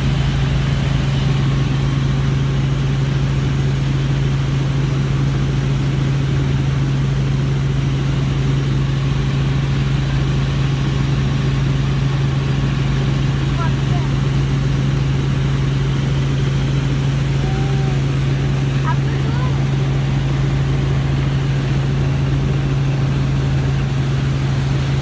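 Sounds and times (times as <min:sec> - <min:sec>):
helicopter engine and rotors droning: 0:00.0 - 0:25.0.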